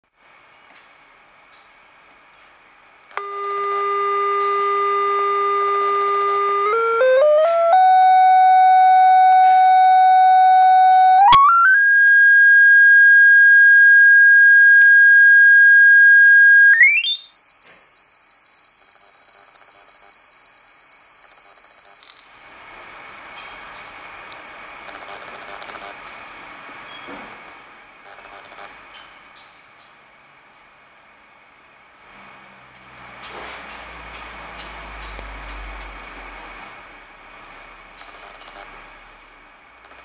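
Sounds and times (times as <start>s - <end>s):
sine-wave test tone: 3.1s - 40.0s.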